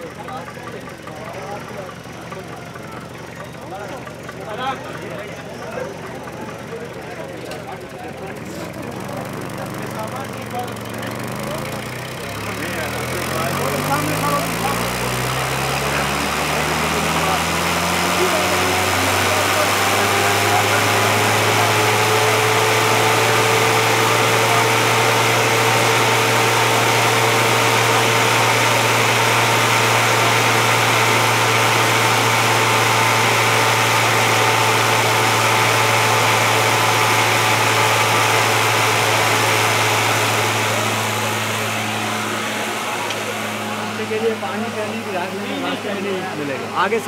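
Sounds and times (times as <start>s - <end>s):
machinery low hum: 7.8s - 47.0s.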